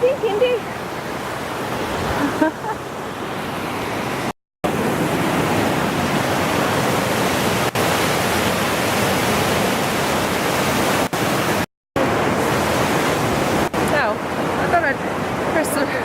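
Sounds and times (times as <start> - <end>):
fast-flowing stream rushing: 0.0 - 16.0.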